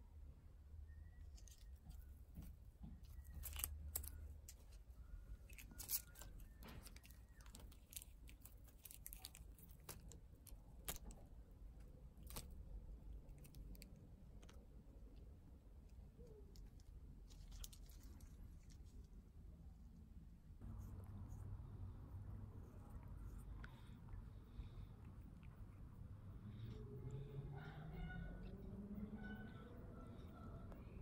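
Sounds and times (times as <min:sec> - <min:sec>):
low outdoor rumble: 0:00.0 - 0:31.0
faint clicks and rustles: 0:01.2 - 0:27.6.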